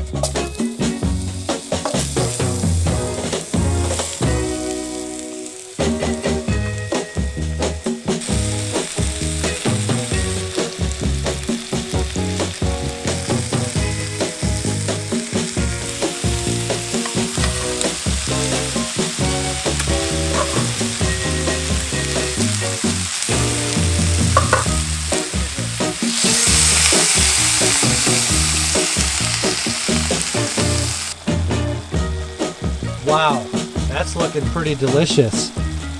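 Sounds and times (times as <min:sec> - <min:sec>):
food sizzling in a pan: 0:00.0 - 0:35.9.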